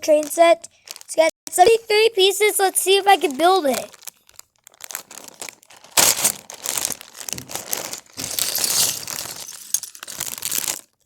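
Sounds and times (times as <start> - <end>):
packaging crinkling and rustling: 0.0 - 1.3, 2.5 - 11.0.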